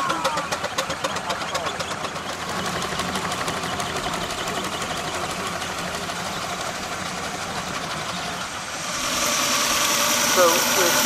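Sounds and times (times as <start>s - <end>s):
steam engine chuffing: 0.0s - 11.0s.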